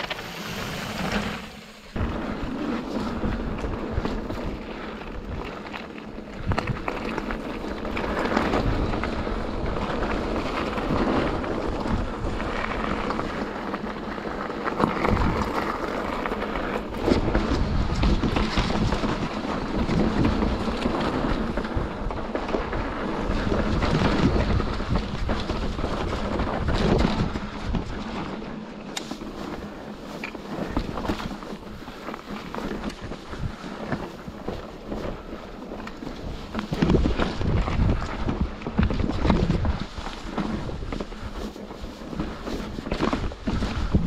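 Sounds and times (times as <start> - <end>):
bike knocking and rattling: 0.0 - 44.0
tyres rolling on dirt: 0.0 - 44.0
wind rushing over microphone: 0.0 - 44.0.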